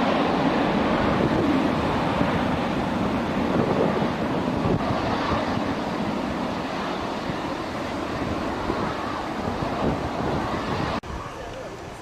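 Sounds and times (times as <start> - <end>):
jet engines at takeoff: 0.0 - 12.0.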